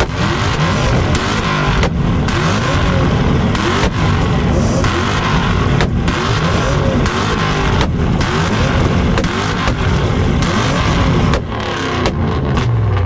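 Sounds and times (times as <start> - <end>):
car engines popping and crackling: 0.0 - 13.0.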